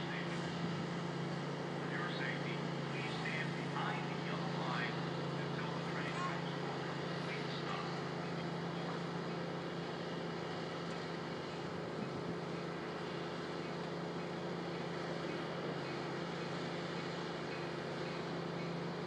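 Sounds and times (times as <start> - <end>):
distant diesel train engine drone: 0.0 - 19.0.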